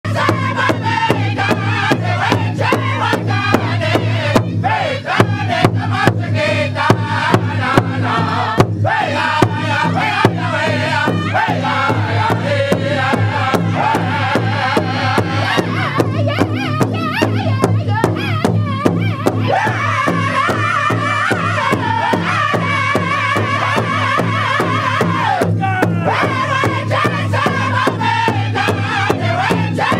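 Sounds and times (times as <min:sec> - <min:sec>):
group singing in unison: 0:00.1 - 0:29.9
large hand drum beating: 0:00.1 - 0:29.9.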